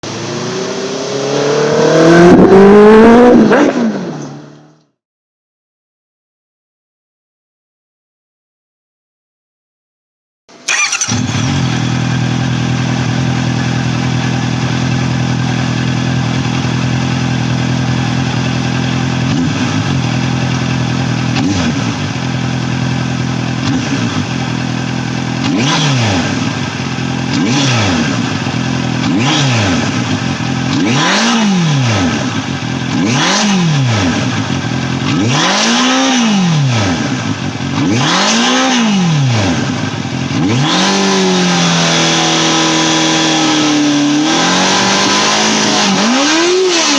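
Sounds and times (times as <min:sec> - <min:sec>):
motorcycle engine idling and revving: 0:00.0 - 0:05.0, 0:10.5 - 0:46.9.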